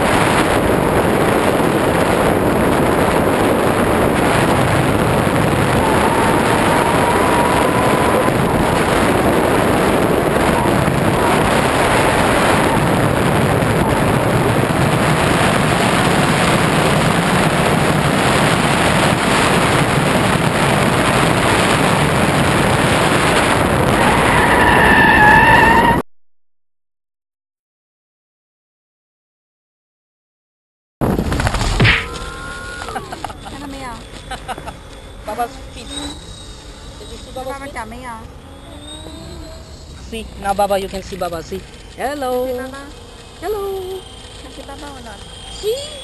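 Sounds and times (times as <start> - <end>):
propeller noise: 0.0 - 24.6, 31.0 - 46.0
rushing wind: 0.0 - 26.0, 31.0 - 46.0
whine: 0.0 - 26.0, 31.0 - 46.0.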